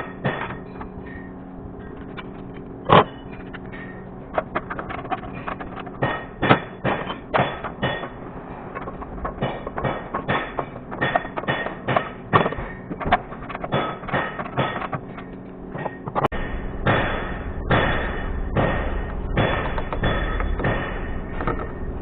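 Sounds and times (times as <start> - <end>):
metal tools clanking on car parts: 0.0 - 16.3, 19.4 - 21.8
steady low hum: 0.0 - 22.0.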